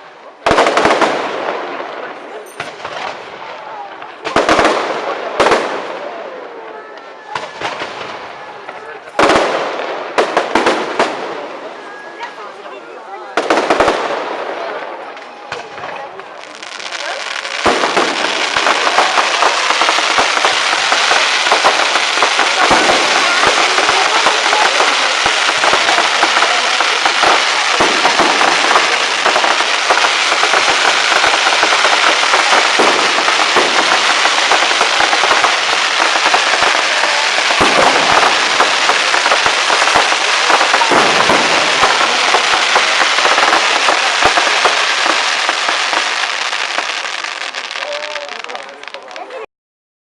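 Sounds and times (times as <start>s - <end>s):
heavy firework bangs: 0.0s - 11.8s, 13.3s - 49.1s
fireworks cracking and crackling: 0.0s - 49.5s.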